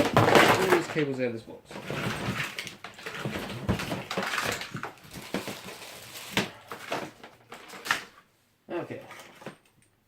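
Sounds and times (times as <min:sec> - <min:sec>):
cables rustling and clattering: 0:00.0 - 0:08.2, 0:08.9 - 0:09.9.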